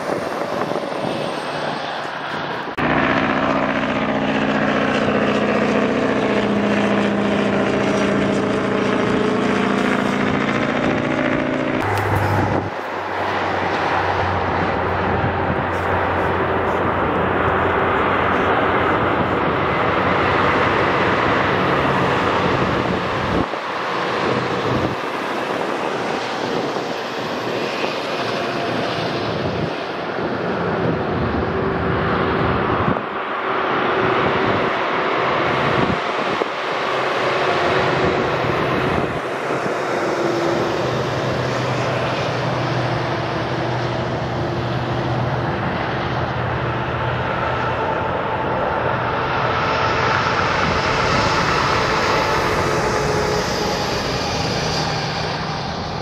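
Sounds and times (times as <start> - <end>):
faint engine drone: 0.0 - 56.0
traffic rush of tyres and engines: 0.0 - 56.0.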